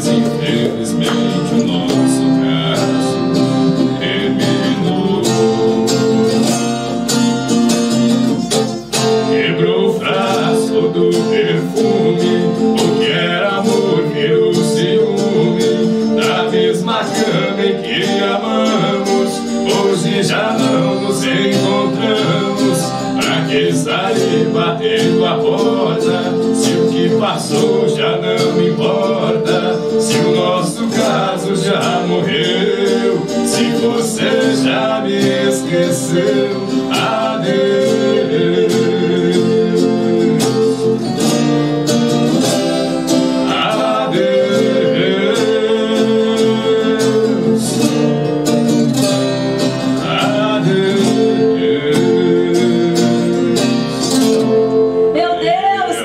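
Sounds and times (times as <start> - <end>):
man singing: 0.0 - 6.8, 9.0 - 41.6, 43.4 - 48.0, 50.0 - 56.0
acoustic viola plucked and strummed: 0.0 - 56.0.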